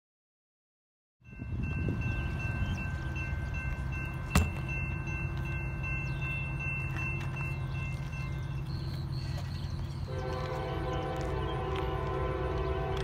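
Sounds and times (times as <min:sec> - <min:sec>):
diesel train rumble: 0:01.2 - 0:13.0
railroad crossing bell ringing: 0:01.2 - 0:13.0.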